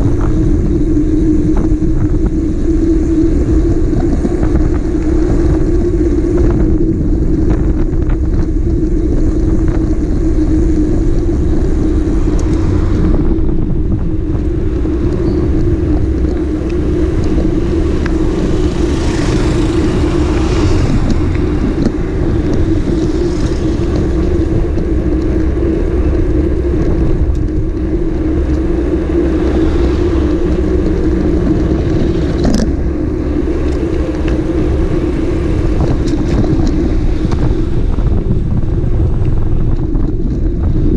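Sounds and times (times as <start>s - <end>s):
motorcycle engine cruising: 0.0s - 40.9s
wind rushing noise: 0.0s - 40.9s.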